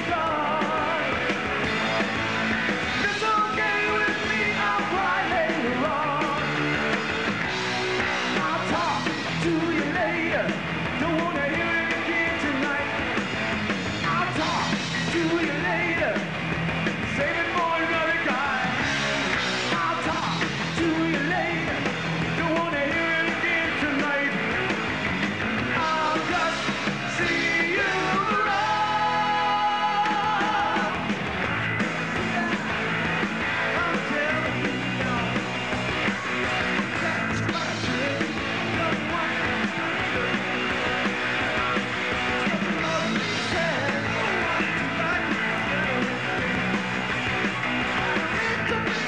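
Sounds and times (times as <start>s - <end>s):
man singing lead vocal: 0.0s - 1.5s, 2.8s - 7.0s, 8.2s - 13.2s, 14.0s - 24.7s, 25.6s - 31.2s, 31.9s - 46.8s, 48.0s - 49.0s
rock band playing live: 0.0s - 49.0s.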